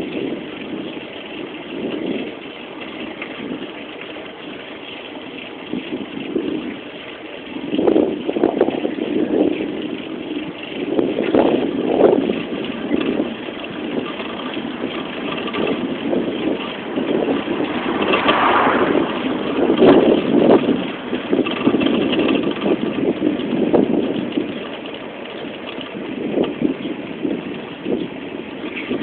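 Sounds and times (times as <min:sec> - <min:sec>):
bike rolling noise: 0:00.0 - 0:29.0
wind buffeting microphone: 0:00.0 - 0:29.0.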